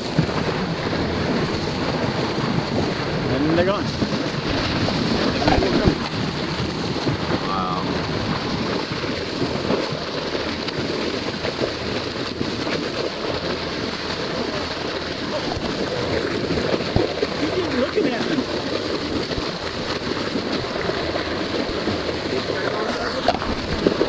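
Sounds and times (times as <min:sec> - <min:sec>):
sea water rushing: 0:00.0 - 0:24.0
wind on microphone: 0:00.0 - 0:24.0.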